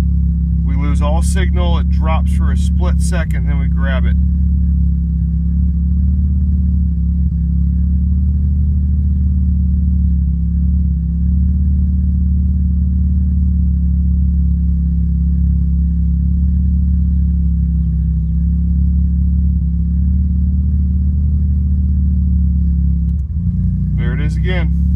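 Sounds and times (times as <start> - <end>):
rotary engine idling: 0.0 - 24.9.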